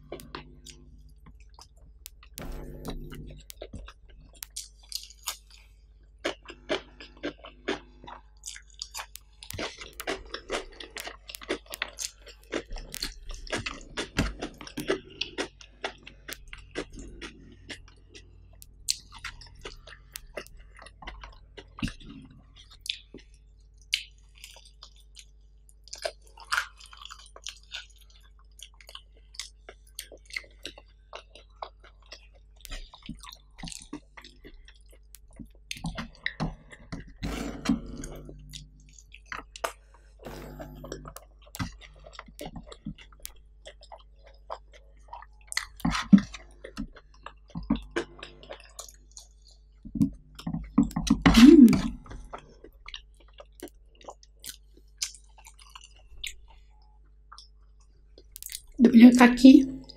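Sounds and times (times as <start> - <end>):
crunchy chewing: 0.0 - 58.8.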